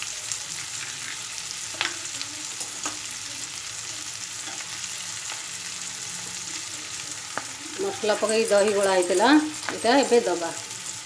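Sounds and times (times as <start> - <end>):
masala sizzling in oil: 0.0 - 11.0.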